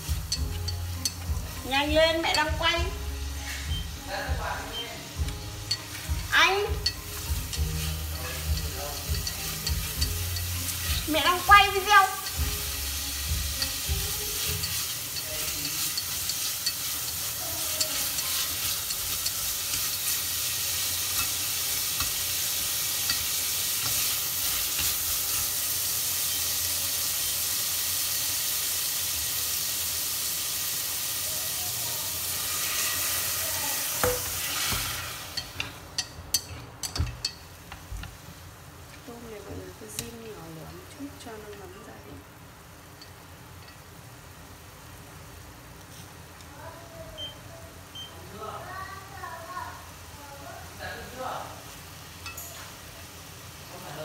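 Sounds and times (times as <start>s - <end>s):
shrimp sizzling in hot fat: 0.0s - 54.0s.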